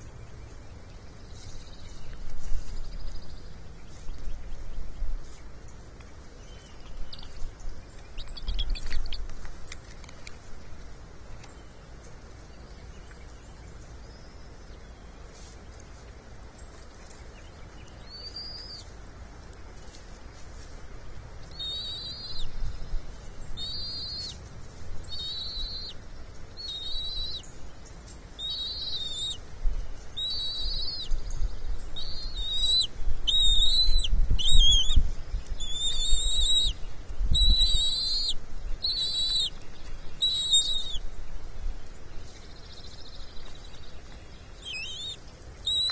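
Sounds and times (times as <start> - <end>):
eagle chicks peeping: 0.0 - 45.9.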